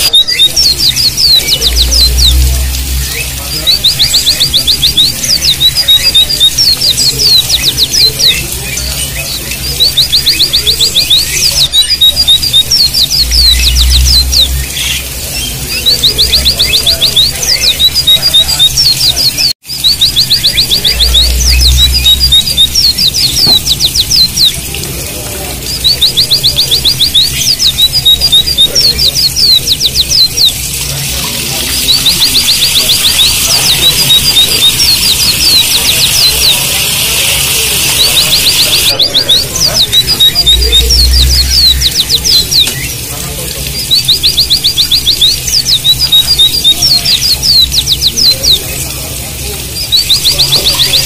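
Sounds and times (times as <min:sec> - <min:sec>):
birds singing high notes: 0:00.0 - 0:51.0
running water hiss: 0:00.2 - 0:51.0.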